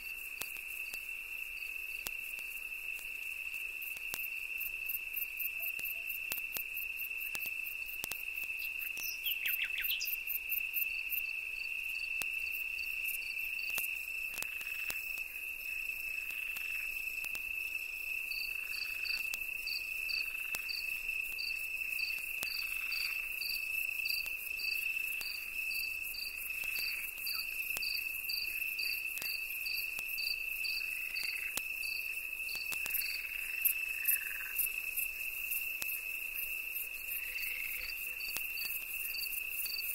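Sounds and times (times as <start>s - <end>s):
insect chirps: 0.0s - 39.9s.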